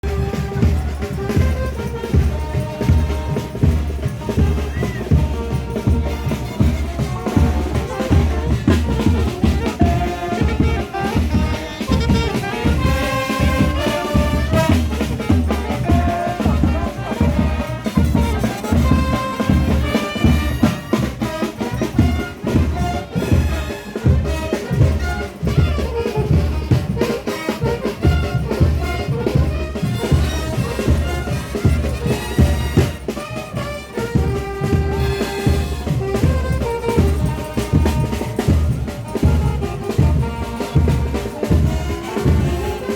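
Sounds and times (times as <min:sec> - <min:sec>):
fast drum beat: 0:00.0 - 0:42.9
trumpets and trombones: 0:00.0 - 0:42.9.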